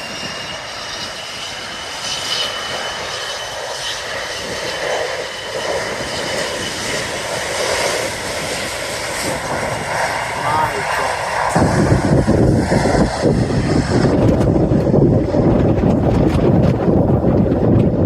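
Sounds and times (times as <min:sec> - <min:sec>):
jet engines roaring with whine: 0:00.0 - 0:18.0.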